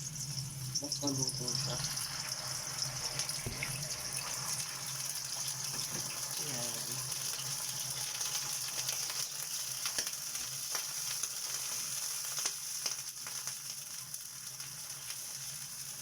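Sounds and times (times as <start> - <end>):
hot dogs sizzling in a frying pan: 0.0 - 16.0.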